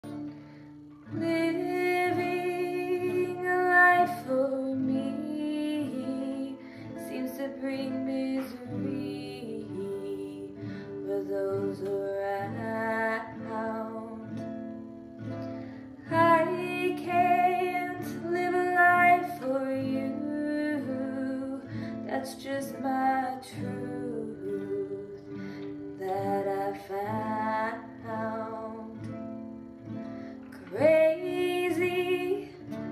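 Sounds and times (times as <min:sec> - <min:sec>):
acoustic guitar: 0:00.0 - 0:32.9
woman singing: 0:01.0 - 0:32.9.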